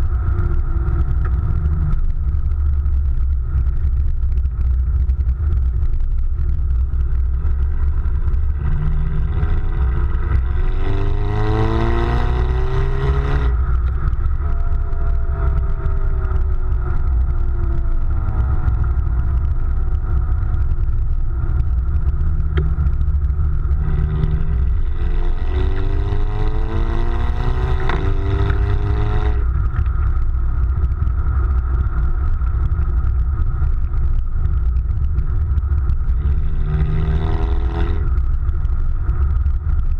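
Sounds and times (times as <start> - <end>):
car exhaust rumbling and revving: 0.0 - 39.9.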